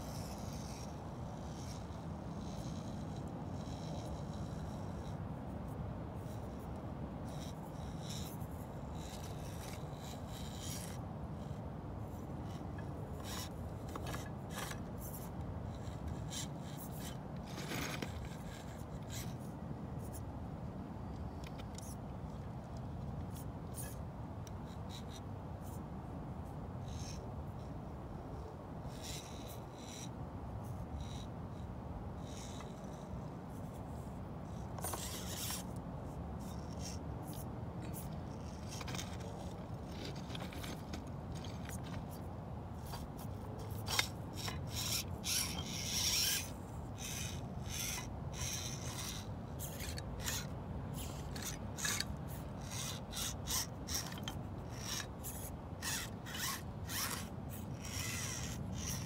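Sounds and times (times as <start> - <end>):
rc crawler tyres scraping on tile: 0.0 - 5.2, 7.2 - 19.4, 23.3 - 24.0, 26.8 - 27.2, 28.9 - 30.1, 30.7 - 59.0
steady low hum: 0.0 - 59.0.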